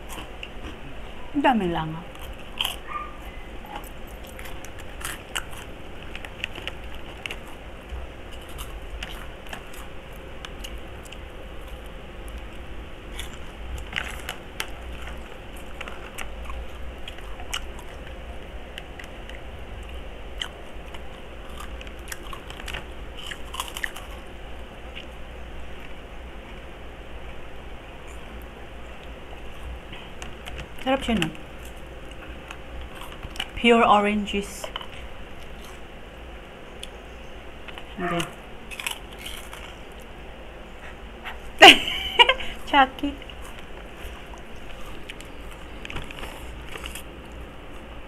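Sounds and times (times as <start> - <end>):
crunching and chewing: 0.0 - 1.1, 2.0 - 33.6, 34.4 - 42.6, 43.2 - 48.0
steady low hum: 0.0 - 48.0.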